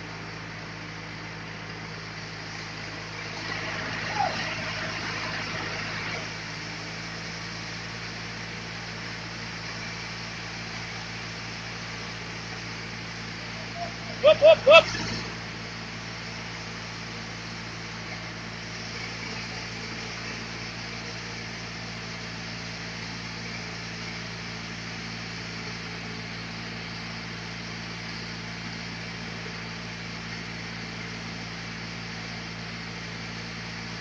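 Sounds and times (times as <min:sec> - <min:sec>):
sawmill machinery humming: 0:00.0 - 0:34.0.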